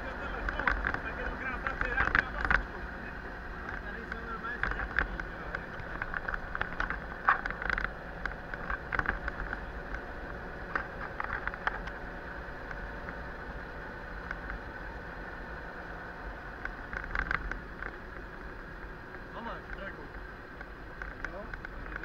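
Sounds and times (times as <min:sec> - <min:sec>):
road noise inside vehicle: 0:00.0 - 0:22.0
vehicle engine: 0:00.0 - 0:22.0.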